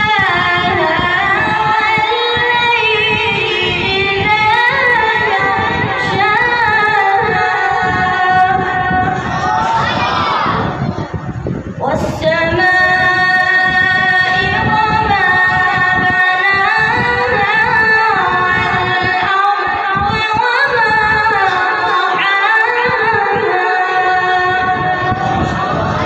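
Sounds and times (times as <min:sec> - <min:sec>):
boy chanting melodic recitation: 0:00.0 - 0:26.0.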